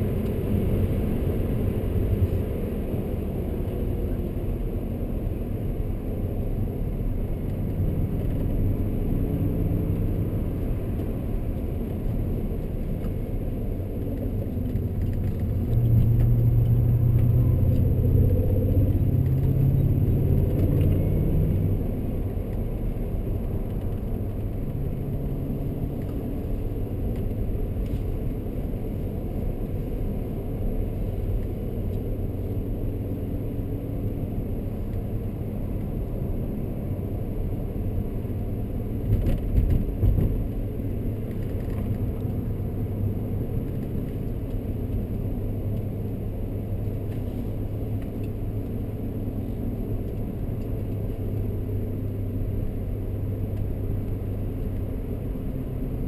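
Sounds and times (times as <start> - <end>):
tyre and road noise: 0.0 - 56.0.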